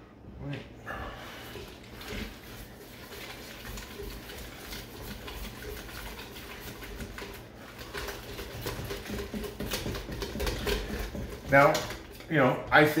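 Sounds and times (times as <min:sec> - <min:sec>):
whisk beating batter in bowl: 0:01.3 - 0:13.0.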